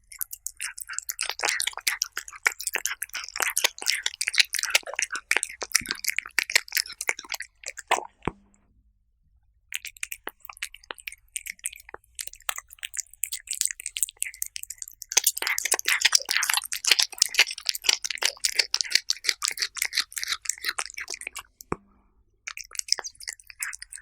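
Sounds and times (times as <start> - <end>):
cats crunching food: 0.0 - 8.2, 9.8 - 21.7, 22.5 - 24.0.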